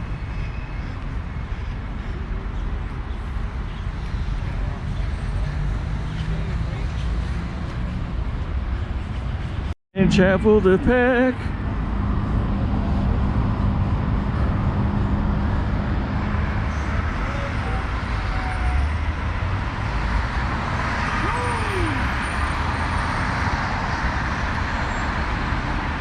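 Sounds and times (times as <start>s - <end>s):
city road traffic: 0.0s - 26.0s
engine hum: 1.6s - 26.0s.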